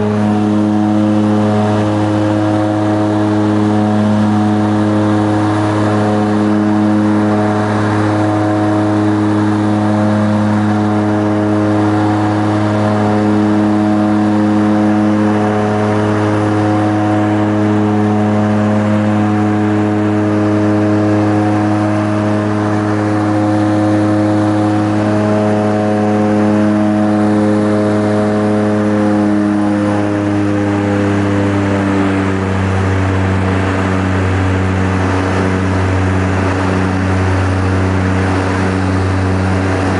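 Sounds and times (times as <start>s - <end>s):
propeller engines droning: 0.0s - 39.9s.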